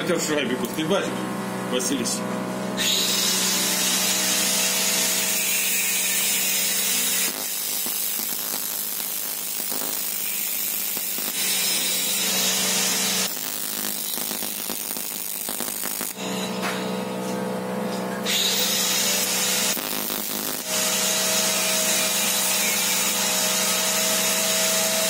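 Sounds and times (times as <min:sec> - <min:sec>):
welding arc buzzing hiss: 0:02.8 - 0:17.4, 0:18.2 - 0:25.0.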